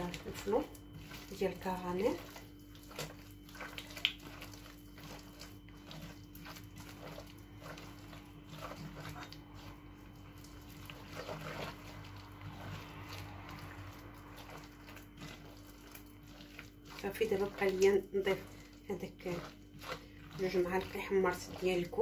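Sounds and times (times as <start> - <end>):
hand squishing batter: 0.0 - 22.0
steady low hum: 0.0 - 22.0.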